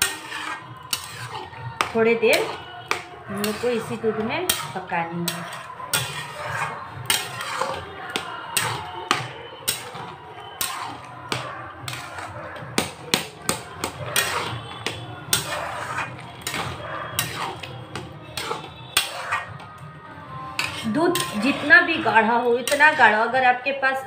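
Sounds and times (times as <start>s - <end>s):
metal spatula scraping pan: 0.0s - 19.8s, 20.5s - 23.4s.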